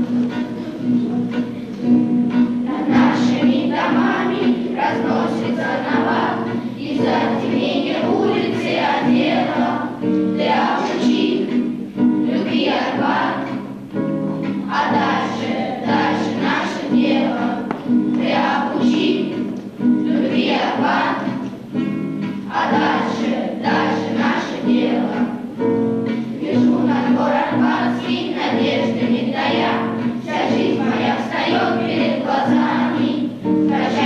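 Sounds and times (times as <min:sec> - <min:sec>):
acoustic guitar: 0:00.0 - 0:34.0
children's choir singing: 0:00.0 - 0:34.0.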